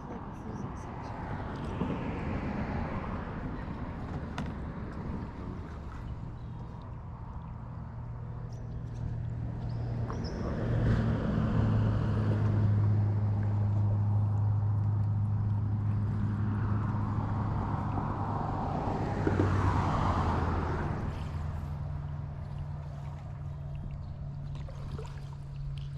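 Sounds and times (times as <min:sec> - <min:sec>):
engine humming: 0:00.0 - 0:25.9.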